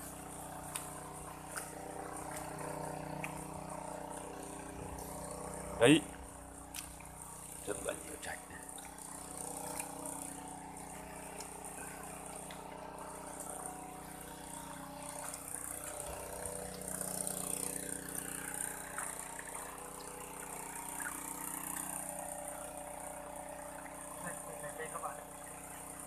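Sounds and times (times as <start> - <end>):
hands squelching in wet mud: 0.0 - 22.0
water pump humming: 0.0 - 26.0.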